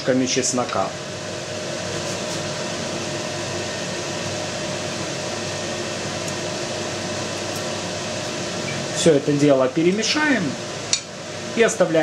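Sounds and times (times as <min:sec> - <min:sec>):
steady whirring hum with hiss: 0:00.0 - 0:12.0.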